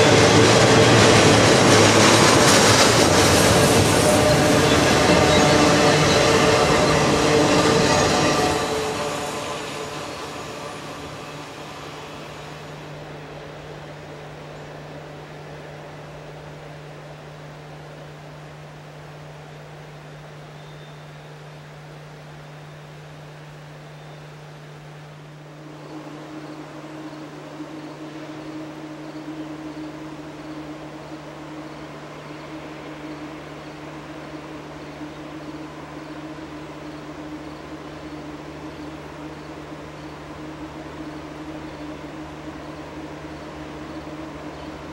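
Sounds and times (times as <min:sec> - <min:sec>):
freight train rumble: 0:00.0 - 0:44.9
steady low hum: 0:00.0 - 0:44.9.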